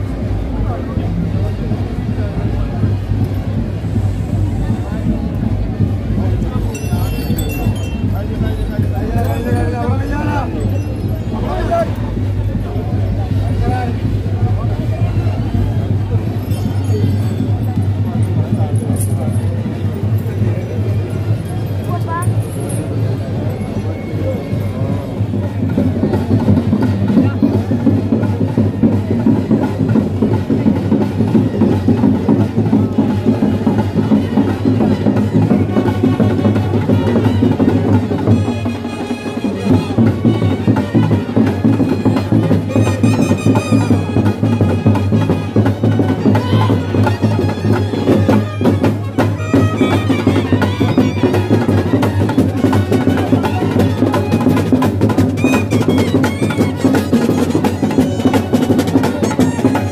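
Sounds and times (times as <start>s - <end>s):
fast procession drumbeat: 0.0s - 59.9s.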